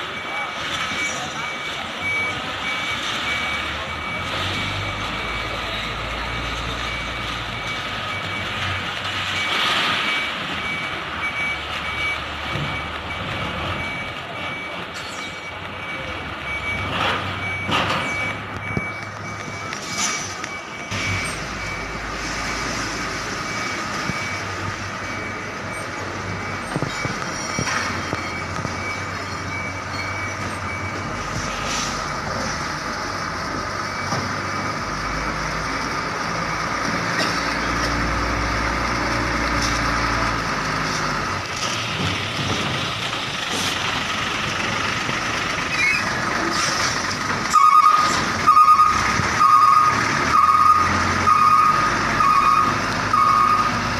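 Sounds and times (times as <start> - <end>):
reversing alarm beeping: 0.0 - 41.4, 47.5 - 53.9
diesel truck engines rumbling: 0.0 - 53.9.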